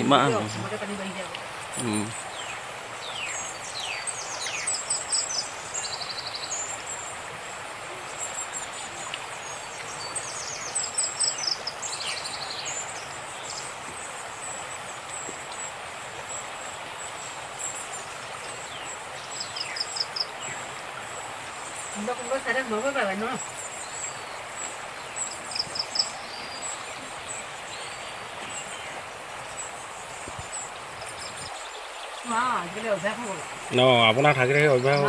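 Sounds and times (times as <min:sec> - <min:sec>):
birds chirping and trilling: 0:00.0 - 0:35.0
river rushing: 0:00.0 - 0:35.0.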